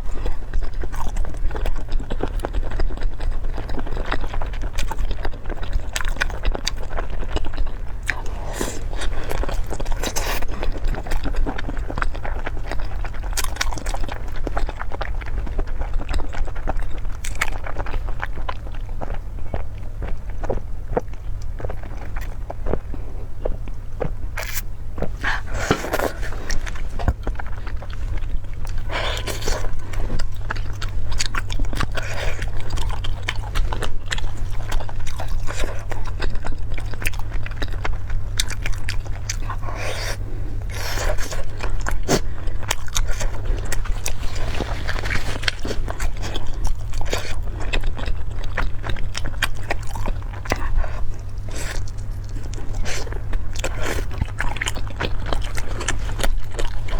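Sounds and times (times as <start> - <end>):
noisy eating smacks: 0.0 - 56.9
steady low hum: 0.0 - 56.9
wet chewing and biting: 0.0 - 56.9.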